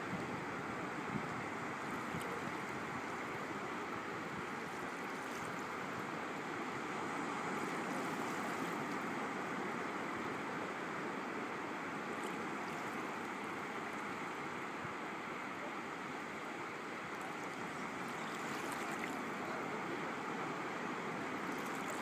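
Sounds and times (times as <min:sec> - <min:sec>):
shallow water rushing: 0:00.0 - 0:22.0.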